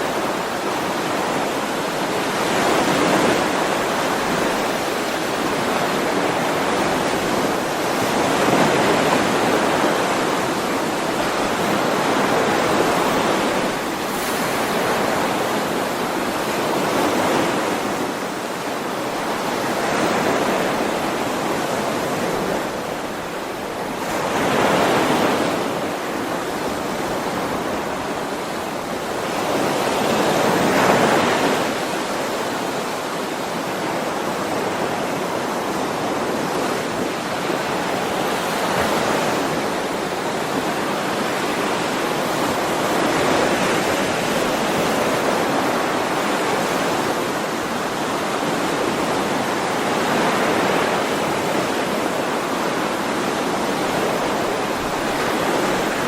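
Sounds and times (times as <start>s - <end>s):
sea waves washing on shore: 0.0s - 56.0s.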